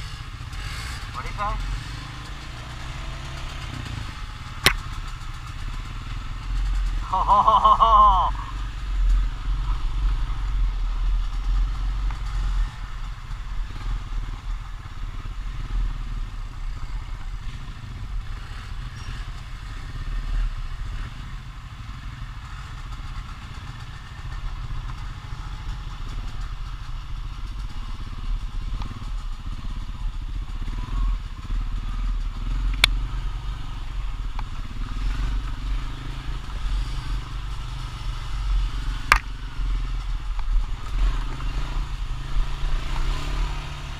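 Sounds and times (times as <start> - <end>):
quad bike engine rumbling: 0.0 - 43.9.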